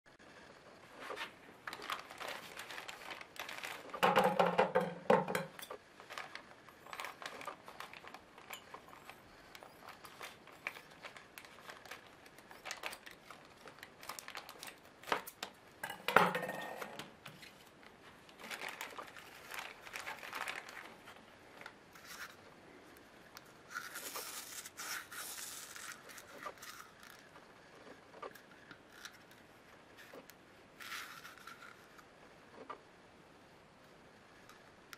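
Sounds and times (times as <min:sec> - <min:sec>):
plastic packaging crinkling: 0:01.0 - 0:32.1.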